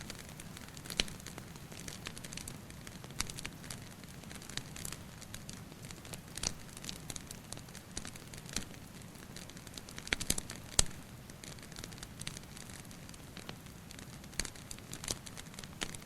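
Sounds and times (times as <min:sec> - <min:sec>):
sharp pops and snaps: 0:00.0 - 0:16.0
wood fire crackling: 0:00.0 - 0:16.0.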